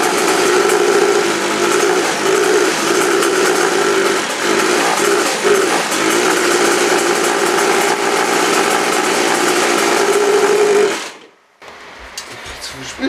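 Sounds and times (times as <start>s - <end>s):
moped two-stroke engine running: 0.0s - 11.2s.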